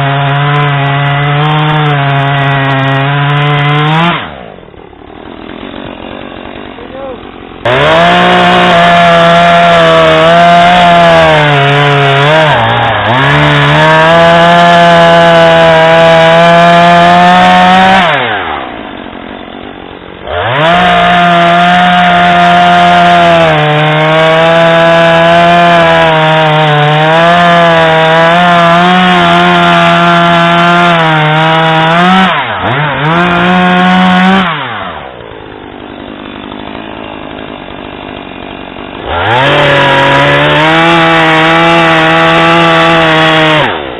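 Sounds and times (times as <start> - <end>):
chainsaw cutting through wood: 0.0 - 43.9.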